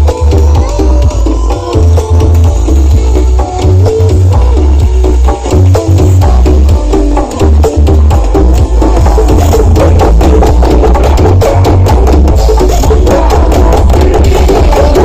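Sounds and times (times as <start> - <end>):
loud bass-heavy music with drums: 0.0 - 15.0.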